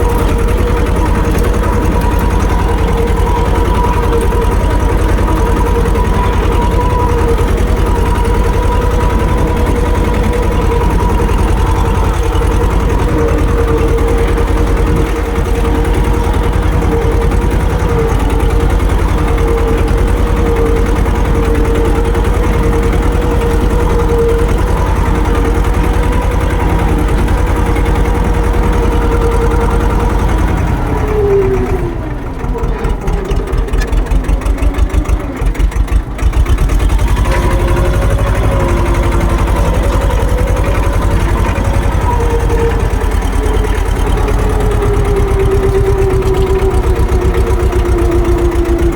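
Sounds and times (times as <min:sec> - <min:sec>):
engine whine: 0:00.0 - 0:48.9
tractor diesel engine running: 0:00.0 - 0:48.9.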